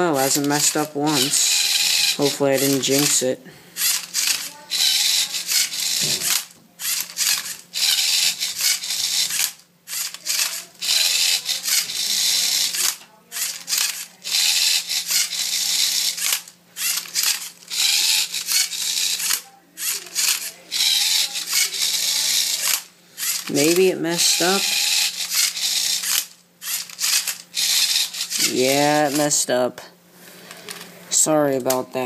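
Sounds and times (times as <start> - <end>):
servo motors whirring: 0.2 - 29.3.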